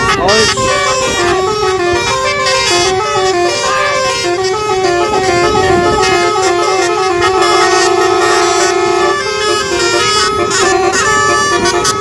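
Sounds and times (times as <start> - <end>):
bus horn playing fast melody: 0.0 - 12.0.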